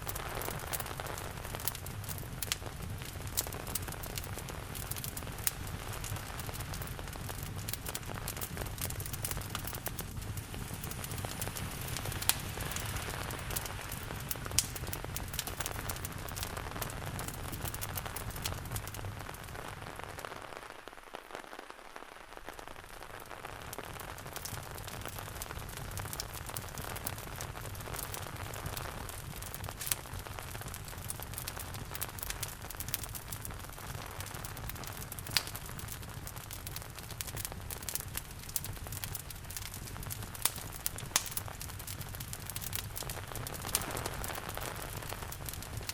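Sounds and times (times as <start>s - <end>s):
sharp pops from fire: 0.0s - 45.9s
steady rain: 0.0s - 45.9s
wood fire crackling: 0.0s - 45.9s.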